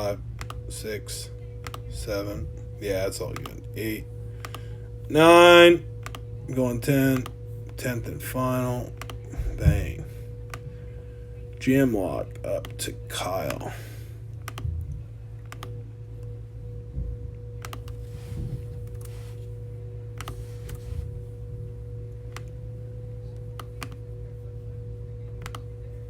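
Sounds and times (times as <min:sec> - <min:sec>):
faint steady tone: 0:00.0 - 0:26.0
steady low hum: 0:00.0 - 0:26.0.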